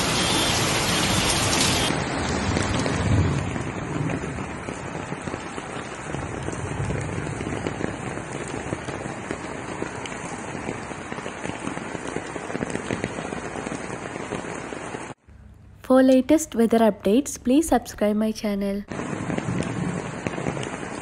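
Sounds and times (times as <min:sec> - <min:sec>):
rain hitting hard surfaces: 0:00.0 - 0:15.2, 0:18.9 - 0:21.0.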